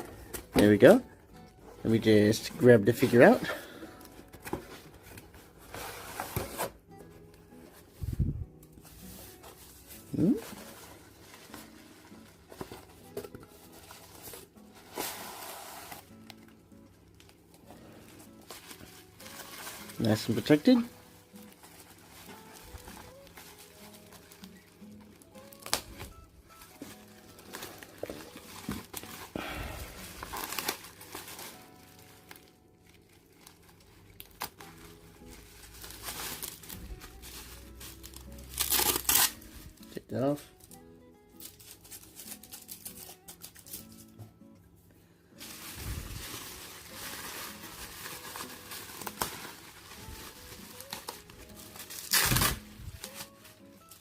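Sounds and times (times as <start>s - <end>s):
plastic wrapping rustling: 0.0s - 44.2s, 45.3s - 54.0s
plastic packaging crinkling: 8.9s - 39.9s, 40.5s - 44.1s, 45.4s - 54.0s.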